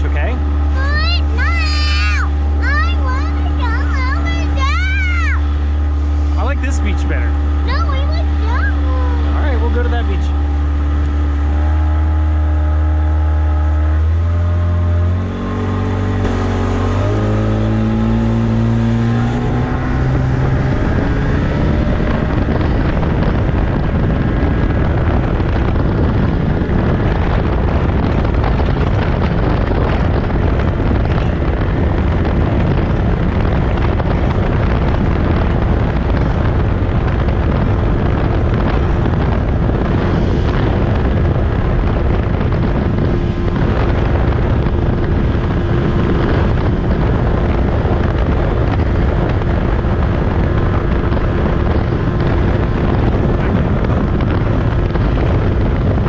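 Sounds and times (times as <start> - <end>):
outboard motor revving: 0.0 - 56.0
rush of wind and water: 0.0 - 56.0.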